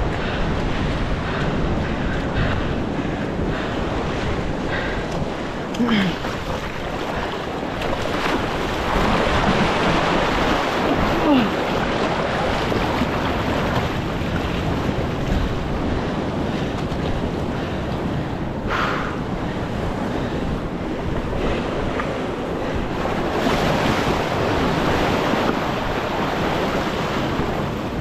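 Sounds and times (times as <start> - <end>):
surf washing over rocks: 0.0 - 28.0
wind buffeting microphone: 0.0 - 28.0.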